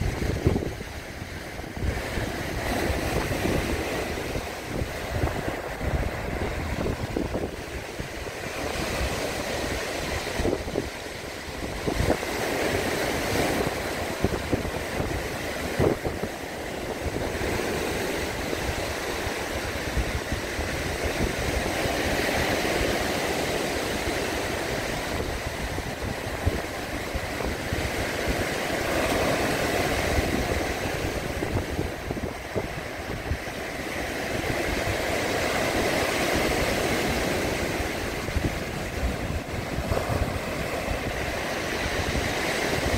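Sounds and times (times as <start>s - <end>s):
surf breaking on pebbly shore: 0.0s - 42.9s
wind buffeting the microphone: 0.0s - 42.9s.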